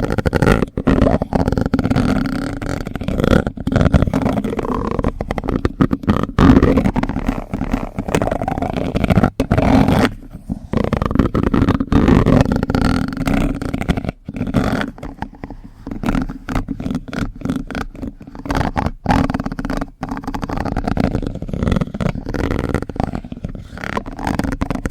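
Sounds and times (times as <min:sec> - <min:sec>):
plastic spoon clicking and scraping: 0:00.0 - 0:24.9.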